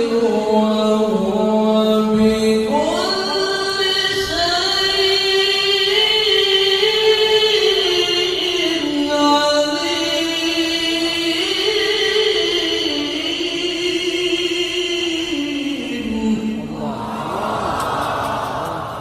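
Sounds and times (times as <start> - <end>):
person chanting recitation: 0.0 - 19.0.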